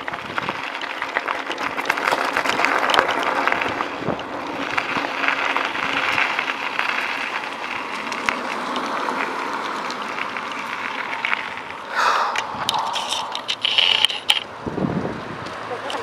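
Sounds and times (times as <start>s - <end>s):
bicycle tyres on gravel: 0.0s - 16.0s.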